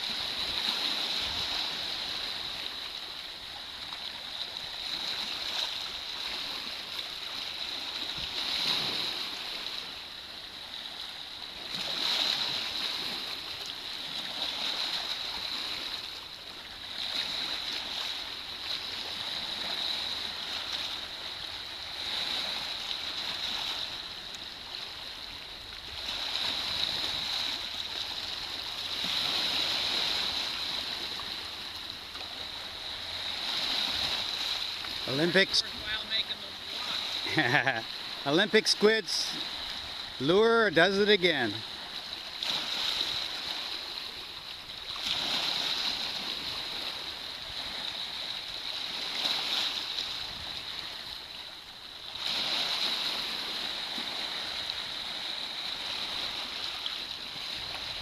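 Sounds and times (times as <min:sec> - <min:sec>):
small waves lapping on beach: 0:00.0 - 0:58.0.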